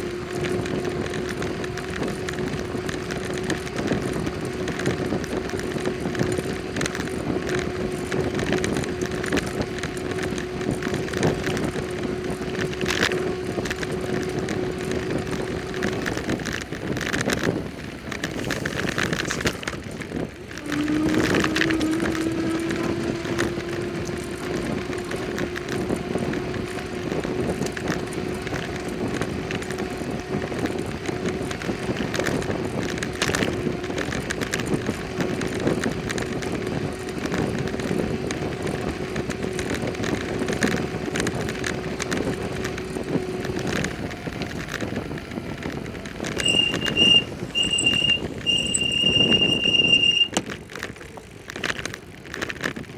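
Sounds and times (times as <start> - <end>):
bicycle whine: 0.0 - 52.9
wind and road noise: 0.0 - 52.9.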